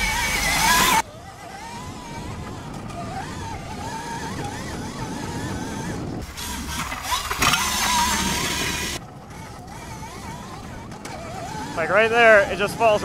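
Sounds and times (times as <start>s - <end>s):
electric motor whine: 0.0s - 13.0s
steady rushing noise: 0.0s - 13.0s.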